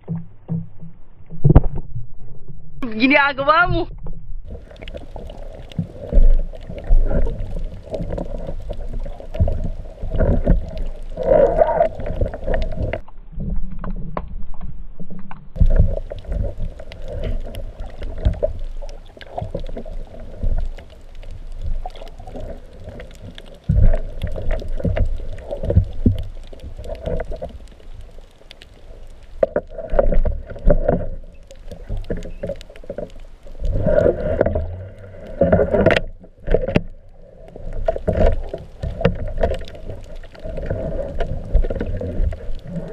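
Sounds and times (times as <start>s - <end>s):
underwater rumble of moving water: 0.0s - 42.9s.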